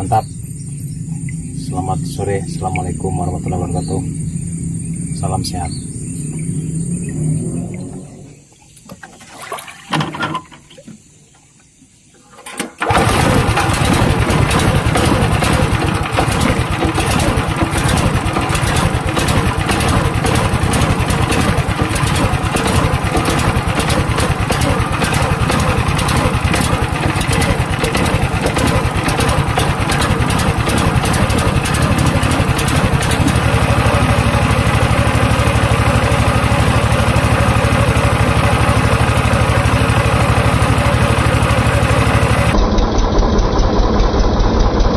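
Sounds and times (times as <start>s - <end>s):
boat engine running: 0.0s - 8.6s, 12.8s - 44.9s.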